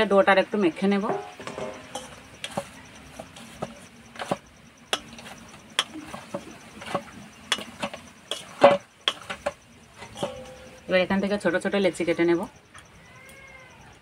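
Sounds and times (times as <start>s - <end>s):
dough kneaded in metal bowl: 0.8s - 12.6s.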